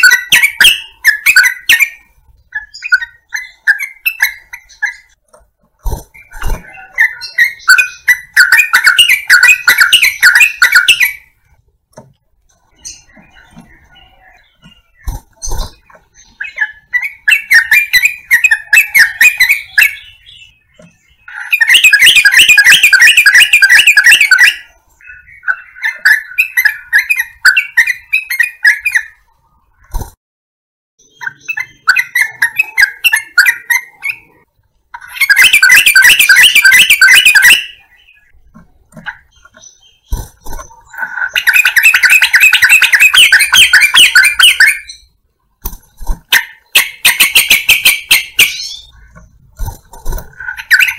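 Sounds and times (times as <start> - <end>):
bird song bubbling chattering: 5.9 - 11.4, 12.6 - 29.9, 31.0 - 45.2, 46.5 - 50.9.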